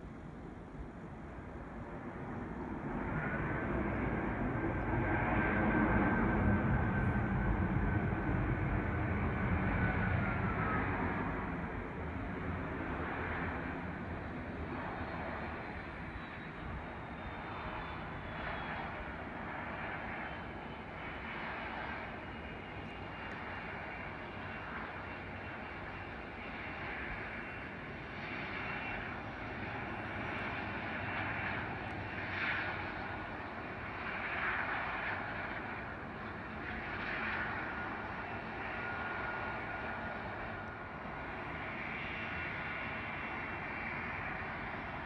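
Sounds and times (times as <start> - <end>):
distant jet engines: 0.0 - 45.0.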